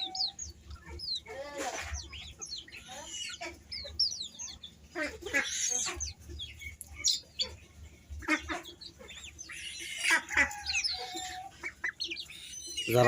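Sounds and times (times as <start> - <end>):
farm birds calling: 0.0 - 13.0.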